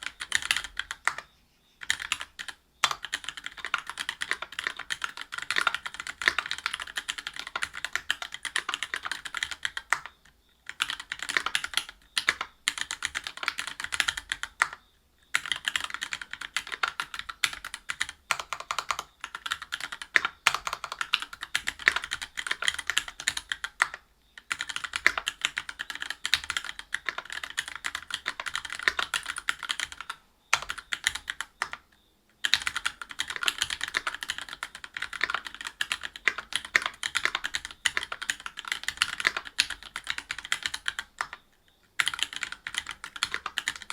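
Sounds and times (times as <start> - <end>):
mechanical keyboard typing: 0.0 - 43.9.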